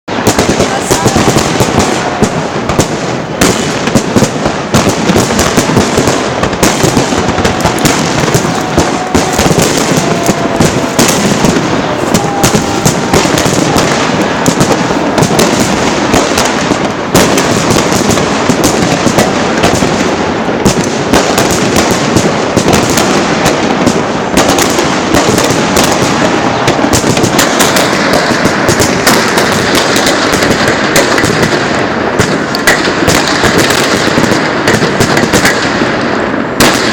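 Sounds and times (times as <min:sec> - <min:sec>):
fireworks launching and bursting: 0:00.0 - 0:36.9.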